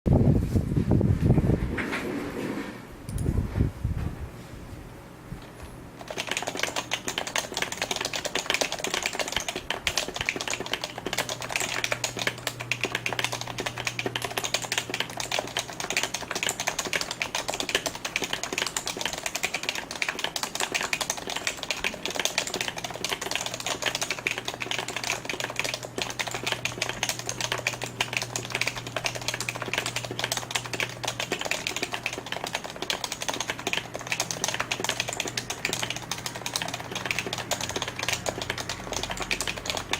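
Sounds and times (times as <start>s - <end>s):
fast keyboard typing: 6.0s - 39.9s.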